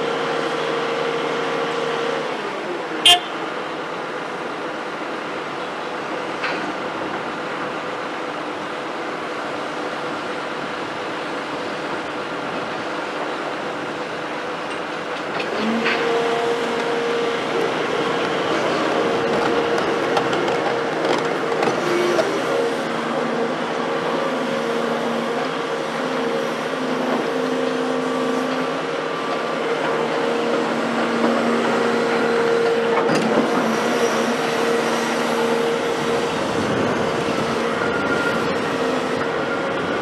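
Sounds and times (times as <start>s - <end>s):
excavator diesel drone with whine: 0.0s - 40.0s.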